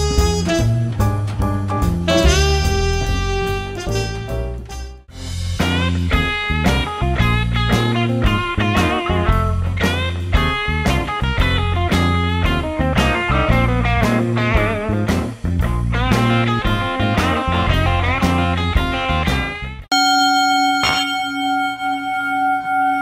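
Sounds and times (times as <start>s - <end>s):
instrumental music with bending melody: 0.0s - 23.0s.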